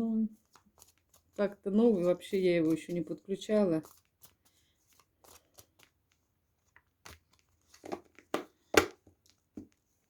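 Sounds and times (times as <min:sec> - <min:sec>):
cards being shuffled: 0:00.3 - 0:09.8.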